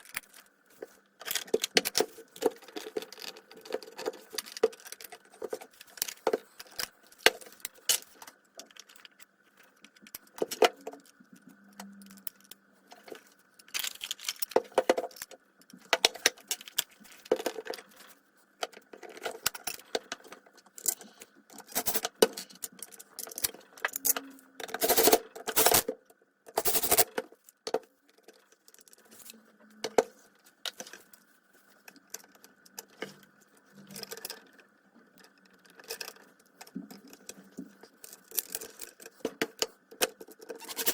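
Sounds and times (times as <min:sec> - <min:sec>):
metal parts and tools clinking: 0:00.0 - 0:27.5, 0:35.2 - 0:40.9.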